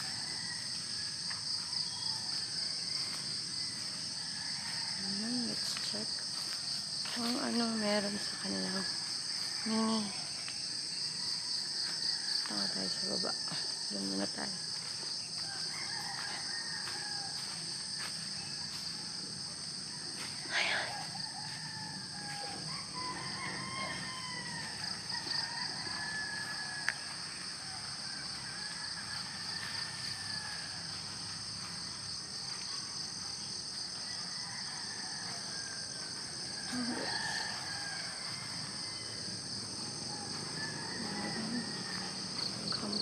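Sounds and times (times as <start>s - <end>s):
insects buzzing: 0.0s - 43.0s.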